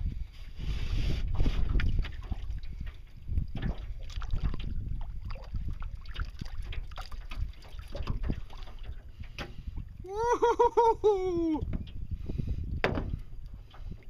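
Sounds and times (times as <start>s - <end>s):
wind buffeting microphone: 0.0s - 14.0s
water slapping boat hull: 1.1s - 14.0s.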